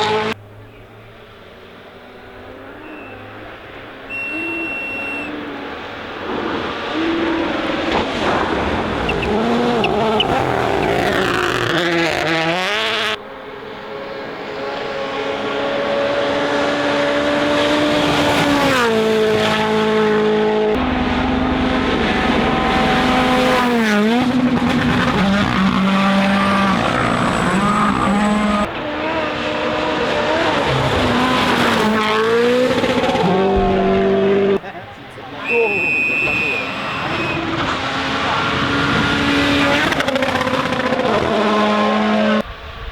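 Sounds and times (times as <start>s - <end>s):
rally car engines revving: 0.0s - 42.6s.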